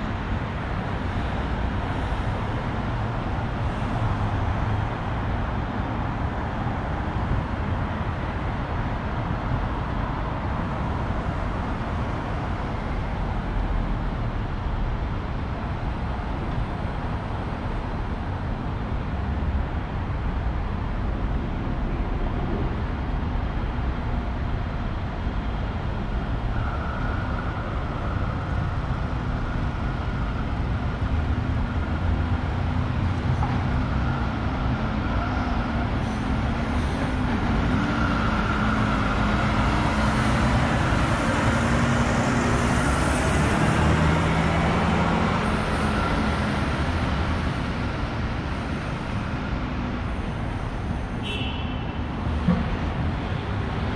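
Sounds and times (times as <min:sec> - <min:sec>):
passing cars: 0:00.0 - 0:53.9.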